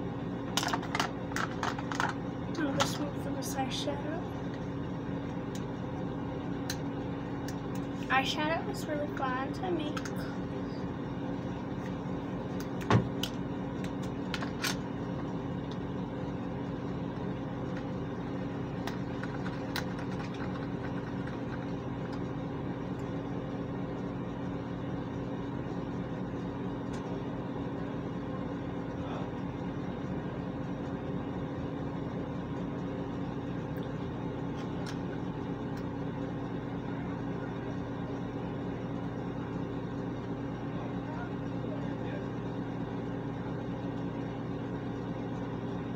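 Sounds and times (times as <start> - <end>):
ventilation fan hum: 0.0 - 45.9.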